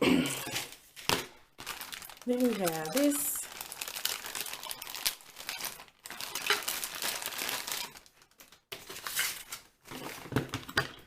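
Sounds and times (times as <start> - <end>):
packaging crinkling: 0.6 - 10.7.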